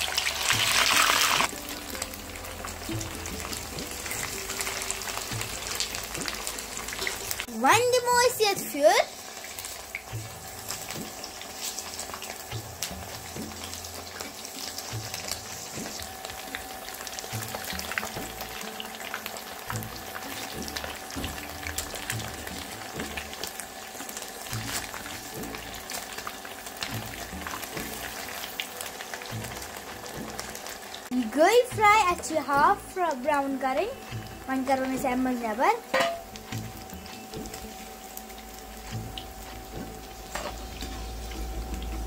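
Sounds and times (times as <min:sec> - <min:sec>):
cheese frying in oil: 0:00.0 - 0:42.0.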